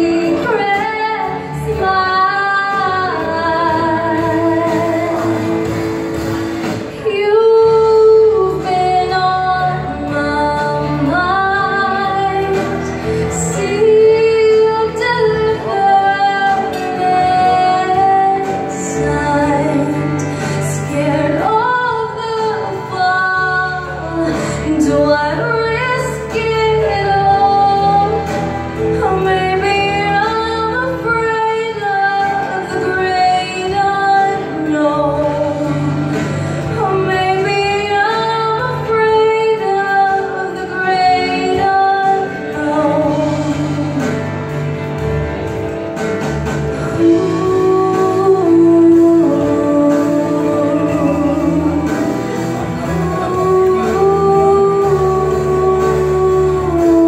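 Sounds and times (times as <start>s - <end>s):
woman singing into a microphone: 0.0s - 45.4s, 46.7s - 57.0s
instrumental accompaniment: 0.0s - 57.0s.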